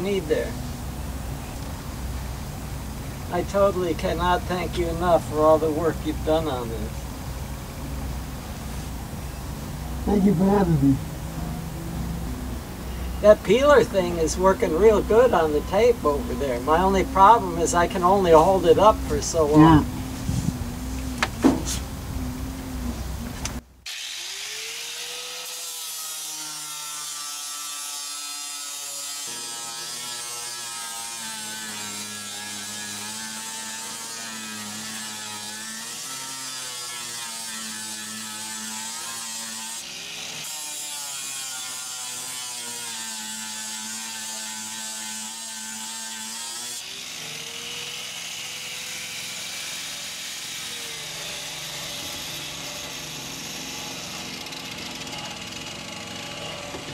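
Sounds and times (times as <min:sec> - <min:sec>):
electric grinder whining: 0:09.3 - 0:56.9.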